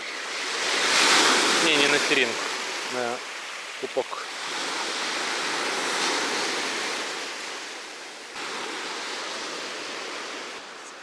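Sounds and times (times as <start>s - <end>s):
sea surf washing onto beach: 0.0s - 11.0s.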